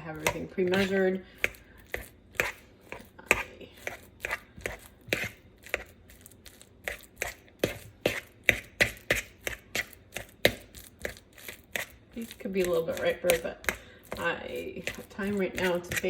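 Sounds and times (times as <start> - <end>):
bananas being mashed in bowl: 0.0 - 16.0.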